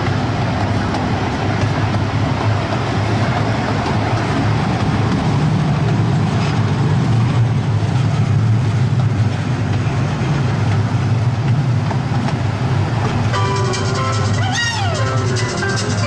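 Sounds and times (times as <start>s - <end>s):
ride train rumbling on track: 0.0s - 16.0s.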